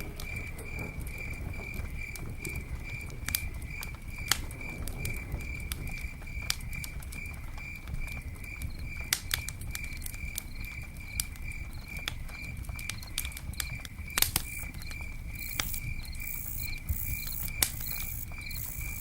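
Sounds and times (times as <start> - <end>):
campfire crackling and popping: 0.0 - 19.0
crickets chirping: 0.0 - 19.0.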